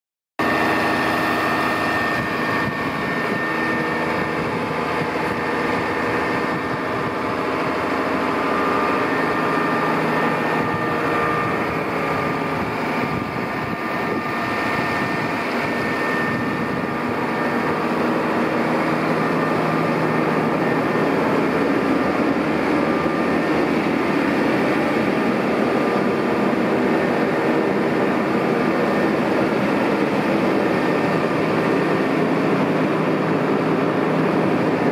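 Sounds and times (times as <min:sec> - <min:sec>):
steady whine: 0:00.4 - 0:34.9
tractor diesel engine running: 0:00.4 - 0:34.9.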